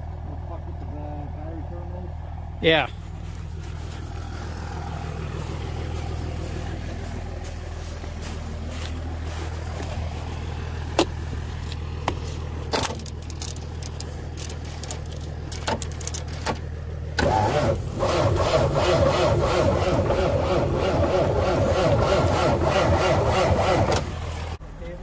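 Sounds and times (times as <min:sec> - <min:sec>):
engine starting and running roughly: 0:00.0 - 0:25.0
low engine hum: 0:00.0 - 0:25.0.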